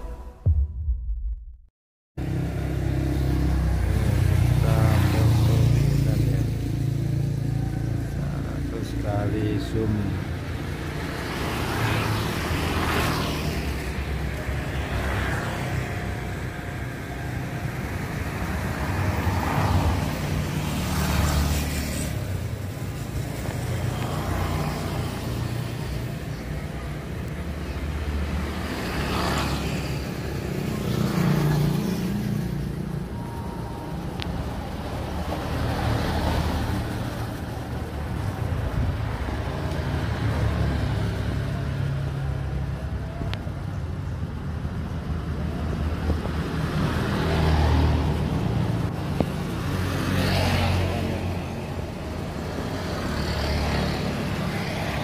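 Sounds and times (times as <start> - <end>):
traffic rumble: 2.2 - 55.0
vehicles passing by: 2.2 - 55.0.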